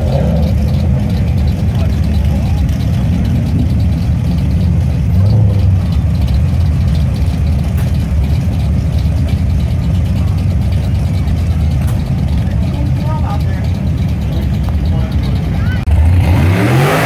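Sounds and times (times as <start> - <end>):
car engines idling: 0.0 - 17.0.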